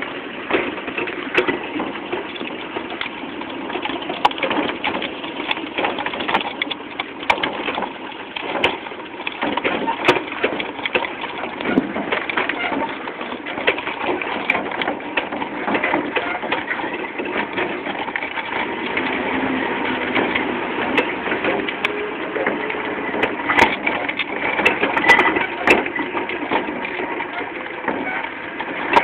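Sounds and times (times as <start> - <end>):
halftrack crunching over rough ground: 0.0 - 29.0.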